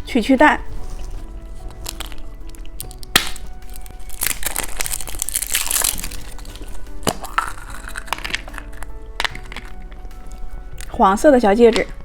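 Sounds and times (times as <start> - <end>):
plastic wrapper crinkling: 0.8 - 10.9.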